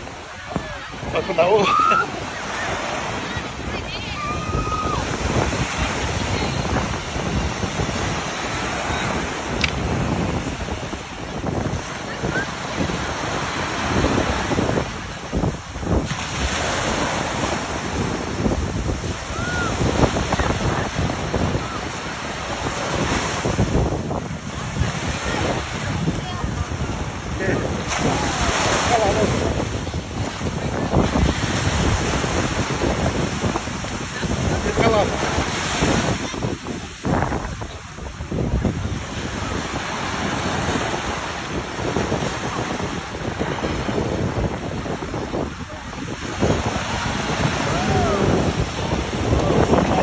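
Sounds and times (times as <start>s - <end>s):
small surf washing in shallows: 0.0s - 50.0s
small waves breaking on shore: 0.0s - 50.0s
wind buffeting microphone: 0.0s - 50.0s.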